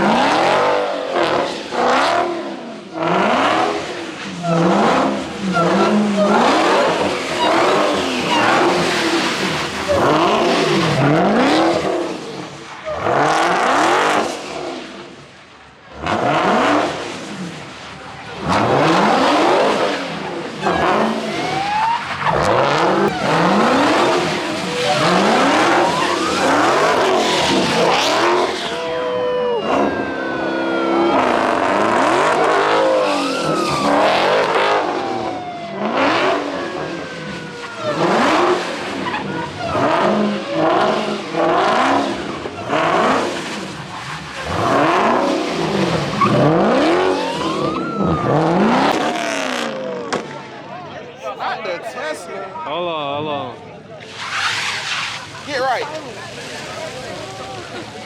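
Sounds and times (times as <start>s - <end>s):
car engines revving: 0.0s - 58.0s
tires squealing: 0.0s - 58.0s.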